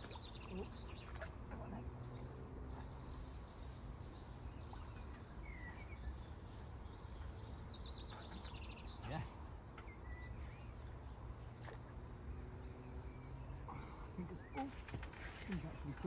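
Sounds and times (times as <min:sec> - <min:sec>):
small birds singing: 0:00.0 - 0:16.0.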